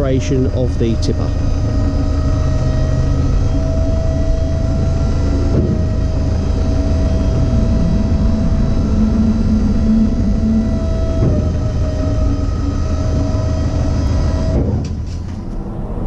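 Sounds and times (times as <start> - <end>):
hydraulic pump whining: 0.0 - 16.0.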